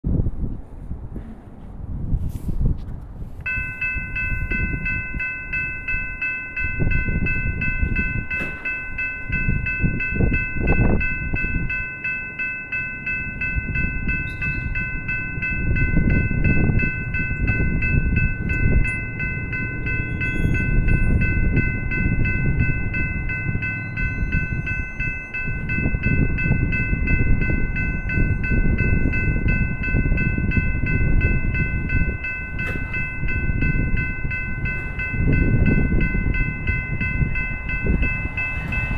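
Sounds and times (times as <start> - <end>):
wind rumble on microphone: 0.0 - 11.9, 13.0 - 38.9
level crossing bell ringing: 3.5 - 38.9.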